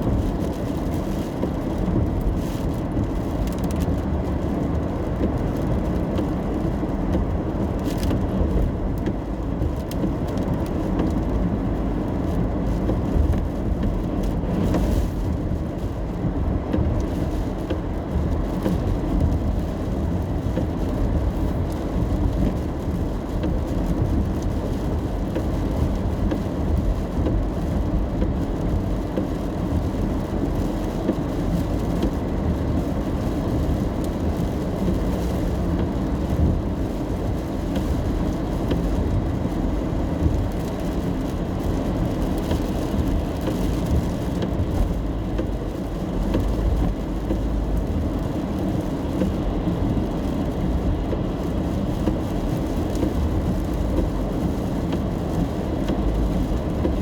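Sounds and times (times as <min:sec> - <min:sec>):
car driving in rain: 0:00.0 - 0:57.0.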